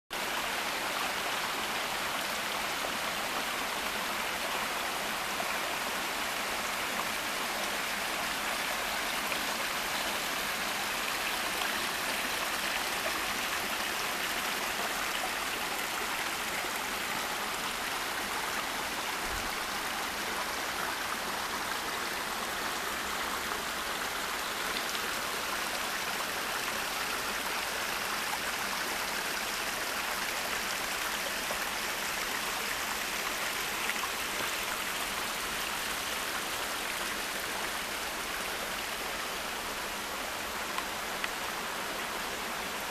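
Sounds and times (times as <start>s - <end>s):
forest creek flowing: 0.1s - 42.9s.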